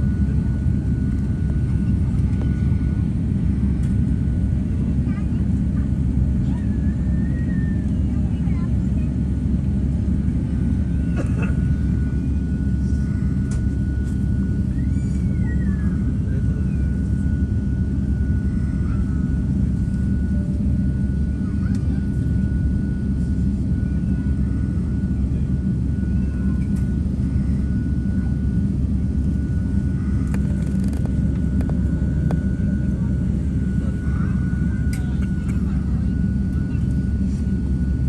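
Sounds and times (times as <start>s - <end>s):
high-pitched engine whine: 0.0s - 38.0s
jet engines rumbling: 0.0s - 38.0s.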